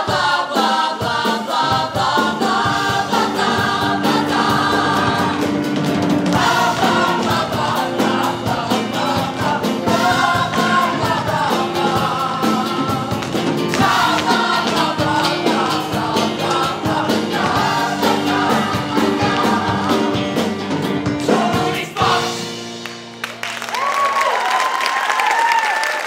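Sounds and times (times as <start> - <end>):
ensemble singing rock song: 0.0 - 22.8
drums: 0.0 - 23.4.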